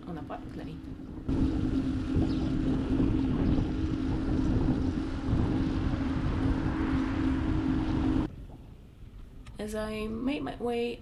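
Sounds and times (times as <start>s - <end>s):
wind buffeting microphone: 0.0s - 10.6s
steady low hum: 0.0s - 11.0s.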